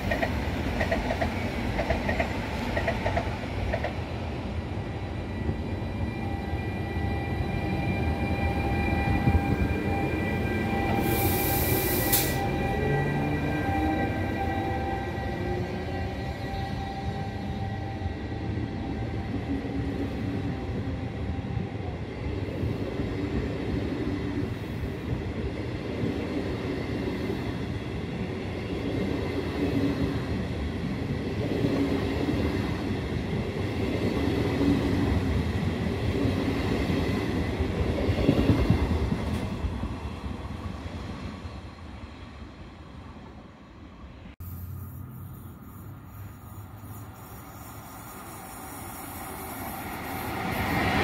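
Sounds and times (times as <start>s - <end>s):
train wheels rumbling on rail: 0.0s - 42.6s, 44.2s - 51.0s.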